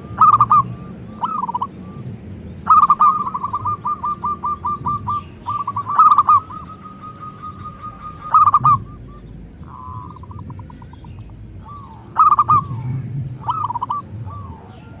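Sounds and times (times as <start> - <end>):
dove cooing: 0.0 - 15.0
dove stuttering trill: 0.0 - 15.0.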